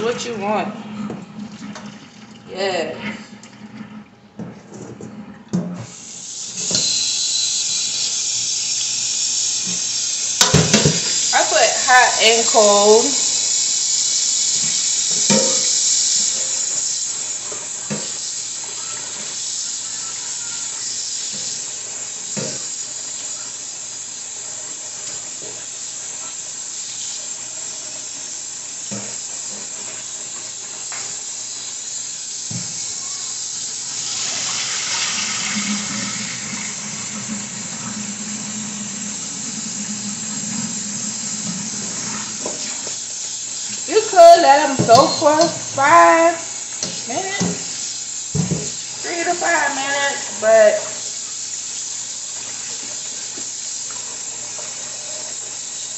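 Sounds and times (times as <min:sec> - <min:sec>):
tap water running into sink: 0:00.0 - 0:55.9.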